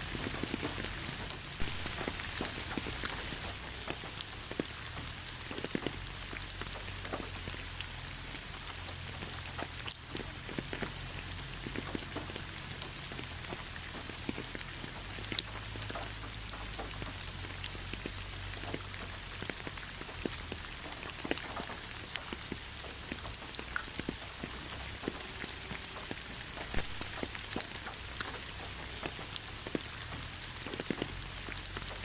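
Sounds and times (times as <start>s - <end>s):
raindrops ticking: 0.0s - 32.0s
steady rain hiss: 0.0s - 32.0s.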